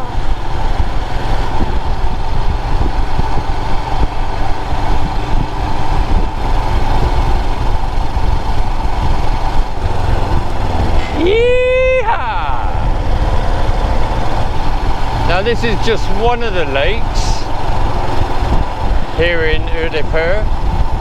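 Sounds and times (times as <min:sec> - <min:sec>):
motorcycle engine running: 0:00.0 - 0:21.0
wind rush on microphone: 0:00.0 - 0:21.0.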